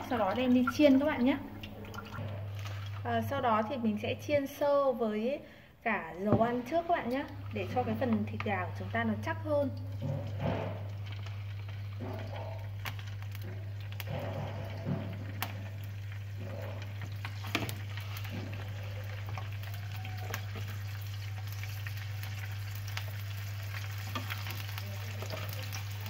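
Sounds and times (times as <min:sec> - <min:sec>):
chicken sizzling in frying oil: 0:00.0 - 0:03.5, 0:06.6 - 0:26.0.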